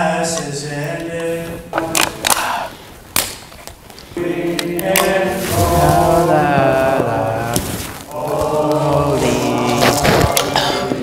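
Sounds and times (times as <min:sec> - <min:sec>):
voices chanting a sung prayer: 0:00.0 - 0:02.8, 0:04.2 - 0:11.0.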